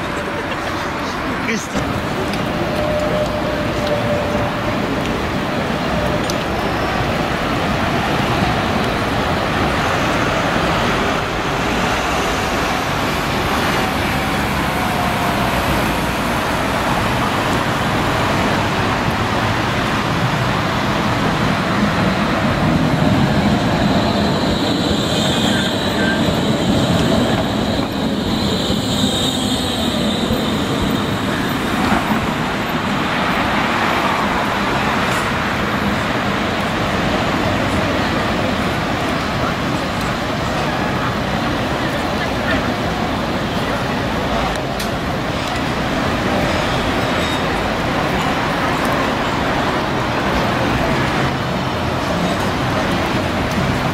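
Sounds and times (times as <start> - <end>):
city traffic: 0.0 - 53.9
tram running on track: 0.0 - 53.9
wheels squealing on rails: 0.5 - 53.9.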